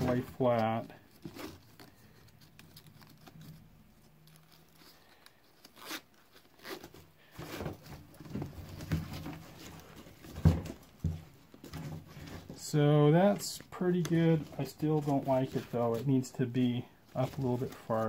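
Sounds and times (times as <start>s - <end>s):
nylon straps rustling and scraping: 0.0s - 18.0s.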